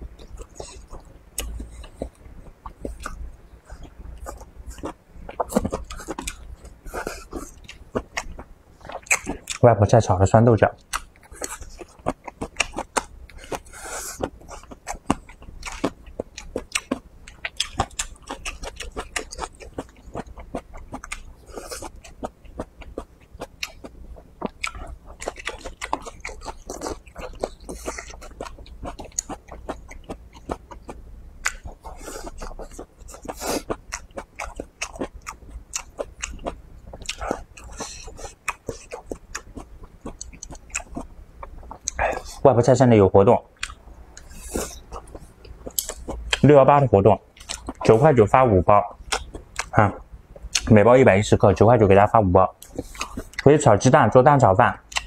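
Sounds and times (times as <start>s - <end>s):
wet chewing and lip smacks: 0.1s - 9.6s, 10.8s - 42.4s, 43.6s - 46.5s, 47.3s - 48.0s, 49.0s - 50.7s, 52.6s - 53.5s.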